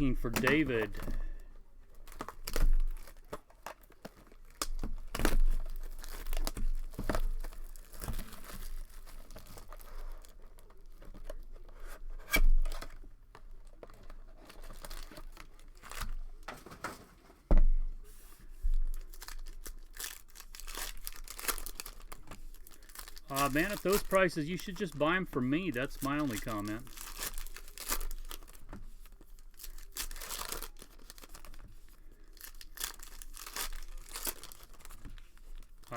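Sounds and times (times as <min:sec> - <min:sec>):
foil packs being torn open: 0:00.0 - 0:16.8, 0:18.8 - 0:35.9
wrappers crinkling: 0:00.0 - 0:16.8, 0:18.4 - 0:35.9.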